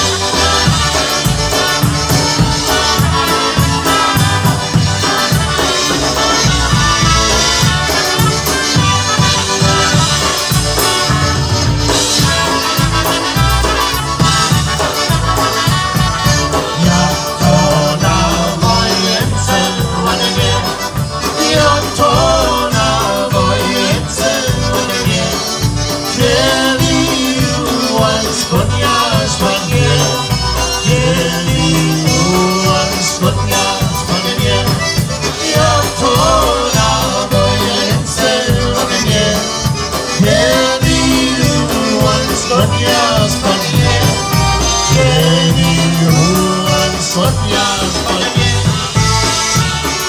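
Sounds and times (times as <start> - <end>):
band members singing: 0.0 - 50.0
polka band playing: 0.0 - 50.0
trumpets: 0.0 - 50.0.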